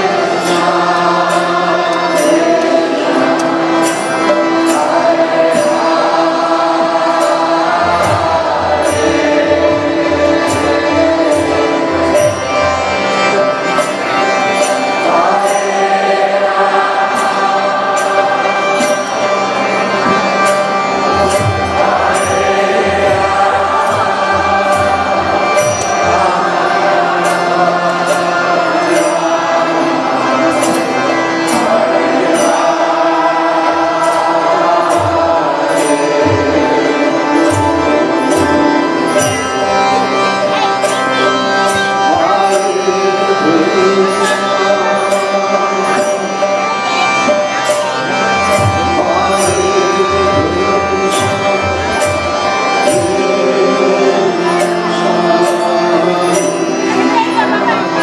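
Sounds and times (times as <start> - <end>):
harmonium chords: 0.0 - 58.0
lead singer and group chanting: 0.0 - 58.0.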